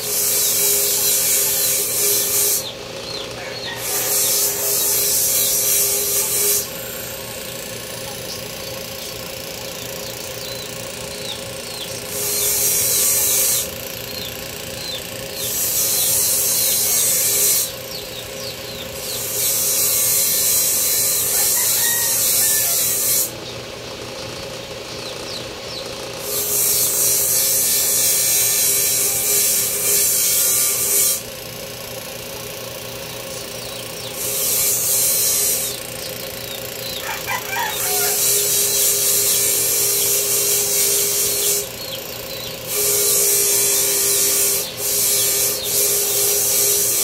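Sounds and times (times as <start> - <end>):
grinding hiss on workpiece: 0.0 - 2.8, 3.4 - 9.1, 10.4 - 18.3, 19.0 - 23.4, 26.2 - 31.3, 33.4 - 36.1, 36.9 - 42.0, 42.7 - 47.0
power grinder running: 0.0 - 47.0.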